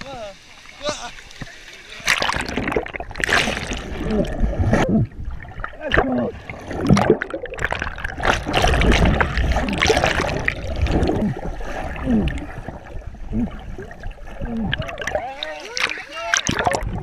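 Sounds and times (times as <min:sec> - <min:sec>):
underwater rushing river flow: 0:00.0 - 0:17.0
bubbles gurgling and popping: 0:02.1 - 0:17.0.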